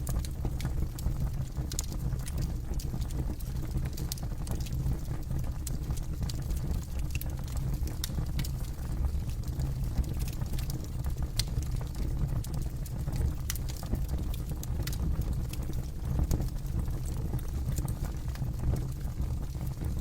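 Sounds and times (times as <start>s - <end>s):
low rumble of flames: 0.0s - 20.0s
wood crackling and popping: 0.0s - 20.0s.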